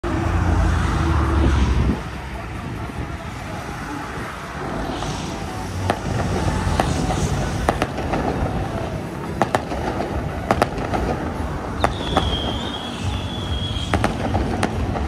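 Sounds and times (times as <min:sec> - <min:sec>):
traffic noise: 0:00.0 - 0:15.0
voices: 0:00.0 - 0:15.0
firework bangs: 0:01.9 - 0:15.0.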